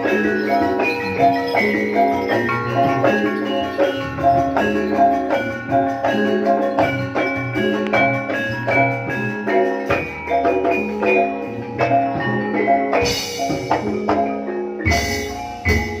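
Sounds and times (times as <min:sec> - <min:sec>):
drum strokes: 0:00.0 - 0:16.0
gamelan metallophones: 0:00.0 - 0:16.0.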